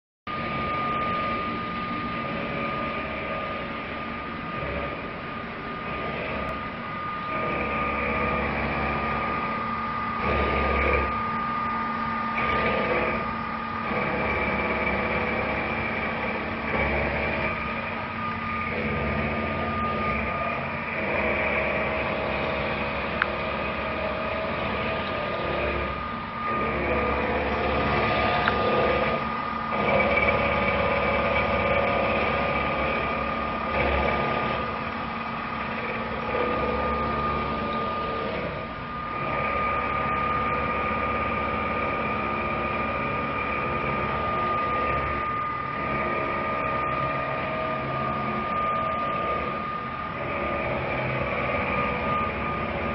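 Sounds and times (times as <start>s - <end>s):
high machine whine: 0.3s - 52.9s
low hum: 0.3s - 52.9s
milling machine cutting metal: 0.3s - 52.9s.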